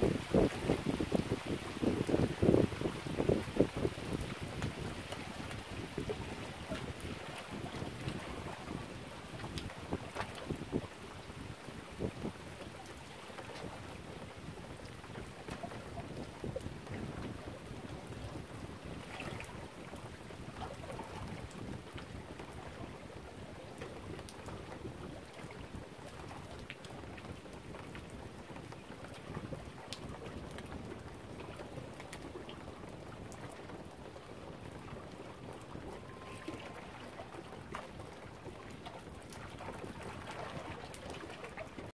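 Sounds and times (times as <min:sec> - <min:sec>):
wind and water rushing: 0:00.0 - 0:41.9.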